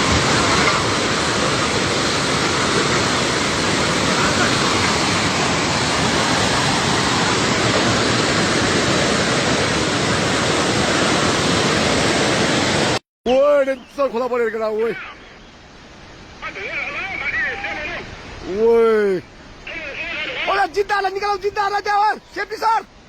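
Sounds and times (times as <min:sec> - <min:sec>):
flooded river rushing: 0:00.0 - 0:23.0.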